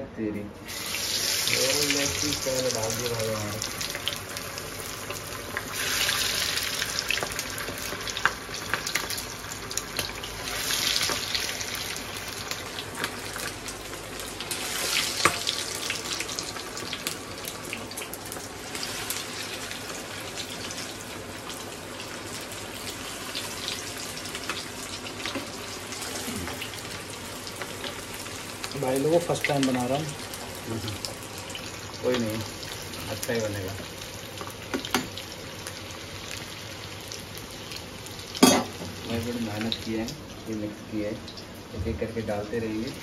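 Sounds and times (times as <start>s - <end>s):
chicken deep-frying in oil: 0.7s - 43.0s.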